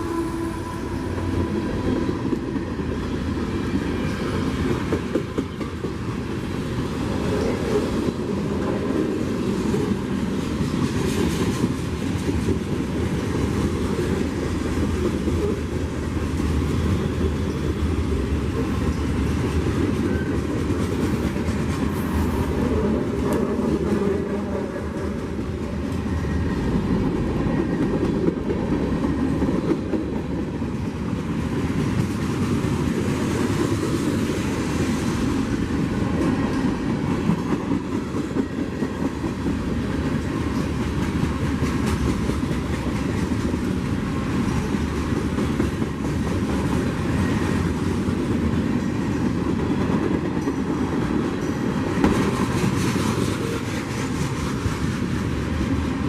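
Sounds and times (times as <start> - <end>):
train cars rumbling: 0.0 - 56.0.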